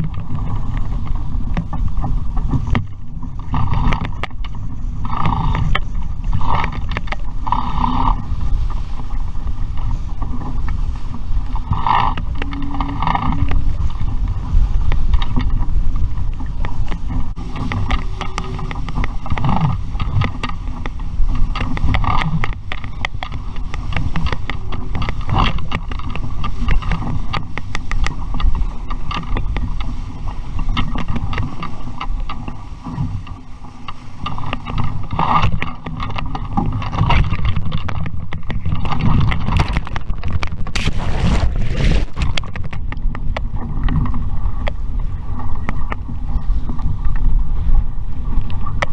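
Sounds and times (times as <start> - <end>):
water splashing: 0.0 - 44.8
wind buffeting microphone: 0.0 - 48.9.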